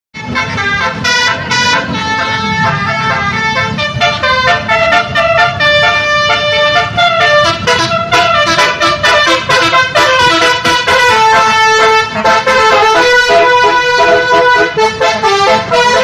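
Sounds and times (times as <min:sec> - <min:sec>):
multi-tone bus horn tune: 0:00.2 - 0:16.0.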